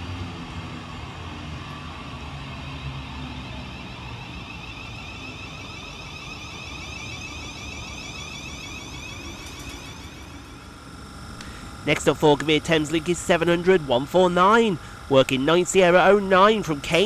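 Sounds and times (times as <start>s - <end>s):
high electric whine: 0.0s - 17.0s.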